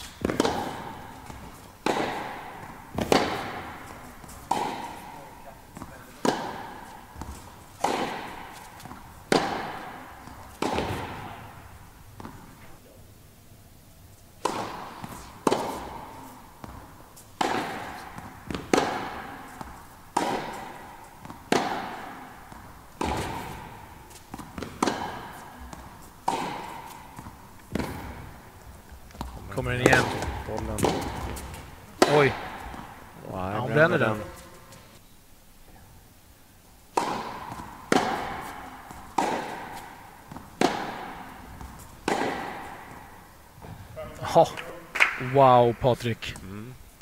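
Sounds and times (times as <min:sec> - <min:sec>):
tennis ball hits echoing: 0:00.0 - 0:12.5, 0:14.4 - 0:34.7, 0:36.9 - 0:45.6.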